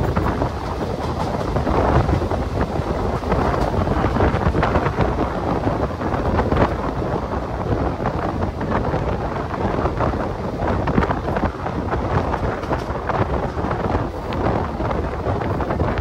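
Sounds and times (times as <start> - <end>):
train rumbling on track: 0.0 - 16.0
wind buffeting microphone: 0.0 - 16.0.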